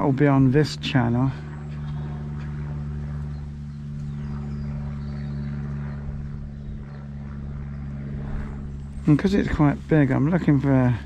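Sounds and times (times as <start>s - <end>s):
faint rumble: 0.0s - 11.0s
low mechanical hum: 0.0s - 11.0s.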